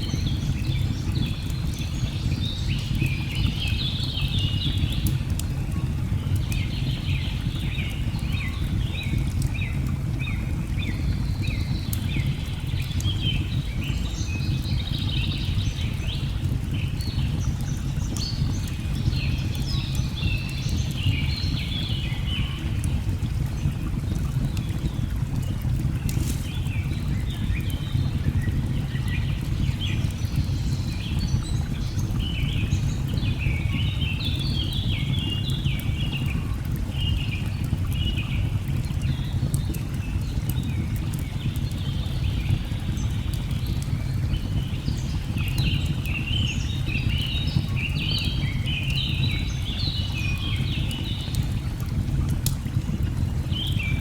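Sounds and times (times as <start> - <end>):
burning logs crackling: 0.0 - 54.0.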